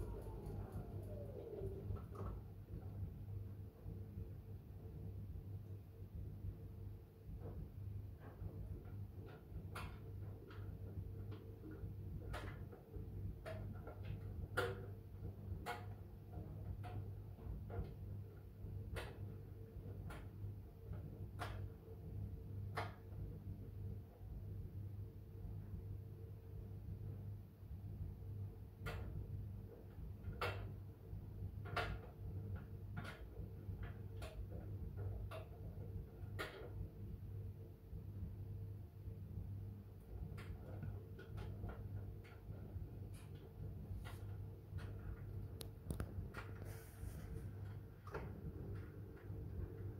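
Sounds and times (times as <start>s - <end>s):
washing machine motor hum: 0.0s - 21.4s, 26.6s - 49.9s.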